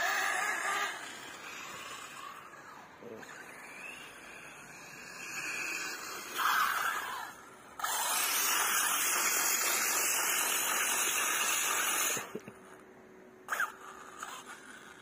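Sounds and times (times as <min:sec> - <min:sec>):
rc truck motor running: 0:00.0 - 0:12.4, 0:13.5 - 0:15.0.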